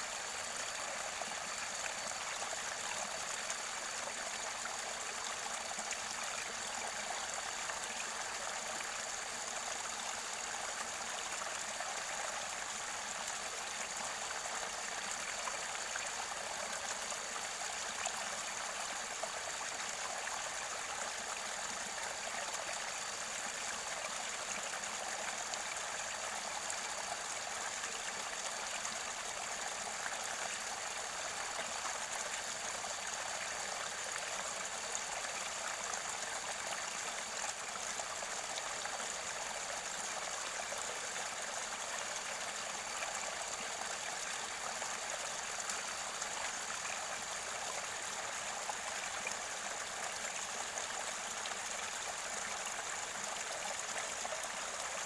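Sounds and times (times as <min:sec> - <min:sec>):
stream water flowing and gurgling: 0:00.0 - 0:55.0.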